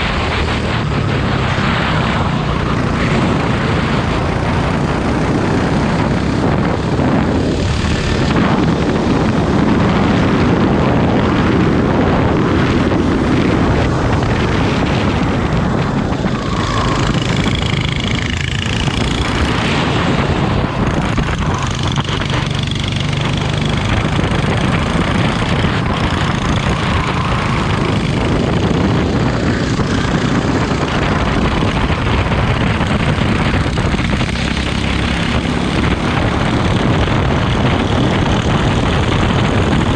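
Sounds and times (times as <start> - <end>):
go-kart engine racing: 0.0 - 39.9
wind and road noise: 0.0 - 39.9.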